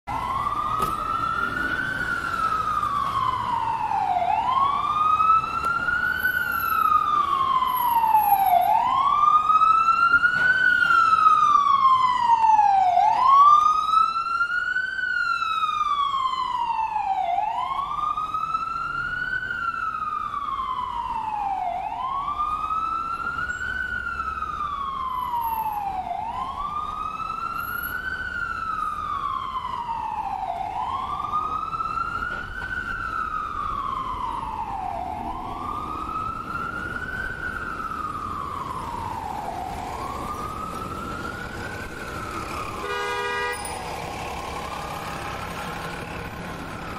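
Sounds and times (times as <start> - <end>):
ambulance siren wailing: 0.1 - 46.9.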